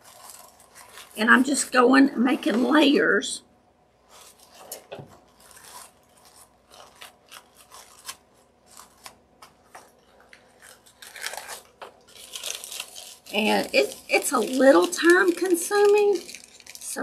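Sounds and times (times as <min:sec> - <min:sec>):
paper filters crinkling: 0:00.0 - 0:03.0, 0:04.0 - 0:17.0.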